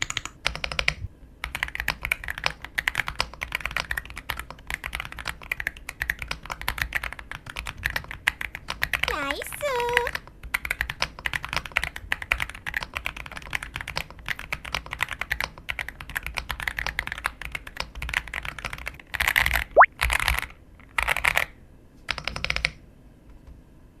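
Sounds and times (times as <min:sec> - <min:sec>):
mechanical keyboard typing: 0:00.0 - 0:09.1, 0:09.7 - 0:19.5, 0:22.1 - 0:22.8.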